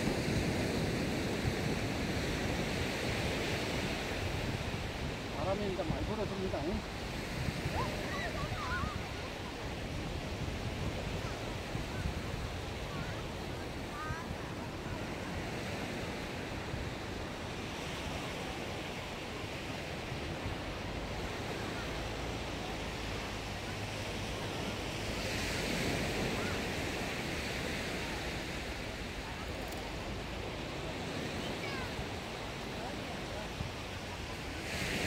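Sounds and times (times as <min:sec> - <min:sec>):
surf washing onto beach: 0:00.0 - 0:35.0
wind blowing across microphone: 0:00.0 - 0:35.0.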